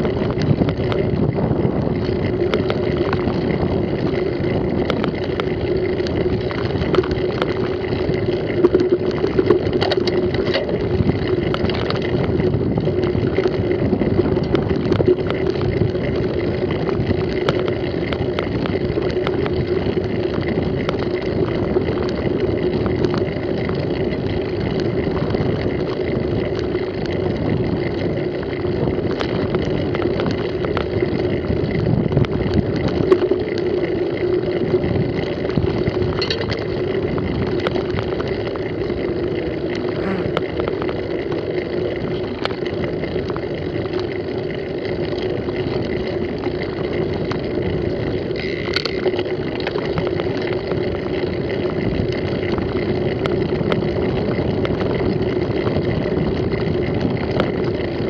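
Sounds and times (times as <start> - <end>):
bike clicks and rattles: 0.0 - 58.0
wind and tyres rushing: 0.0 - 58.0.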